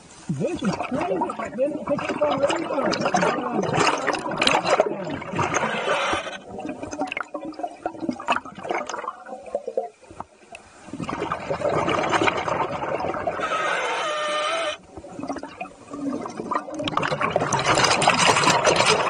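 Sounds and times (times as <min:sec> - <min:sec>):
air bubbles gurgling underwater: 0:00.3 - 0:13.7, 0:14.7 - 0:19.0.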